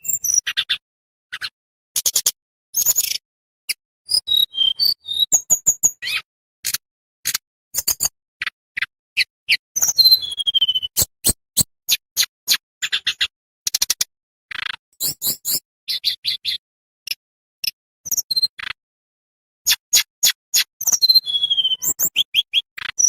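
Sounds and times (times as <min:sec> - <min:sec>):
songbird singing chips and whistles: 0:00.0 - 0:18.8, 0:19.6 - 0:23.0.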